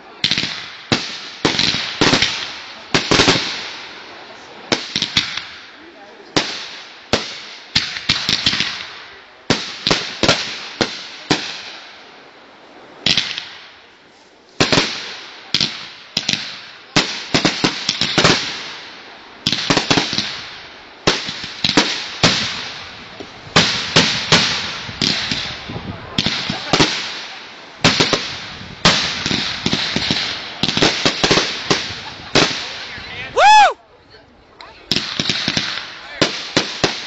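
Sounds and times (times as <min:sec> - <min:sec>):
fireworks banging and hissing: 0:00.0 - 0:33.8, 0:34.5 - 0:37.0.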